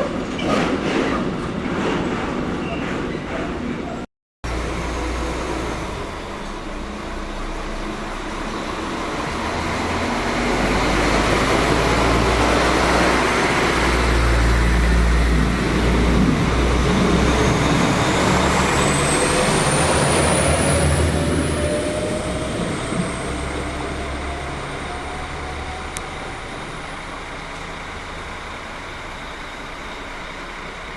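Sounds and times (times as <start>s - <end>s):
train rail rumble: 0.0s - 30.9s.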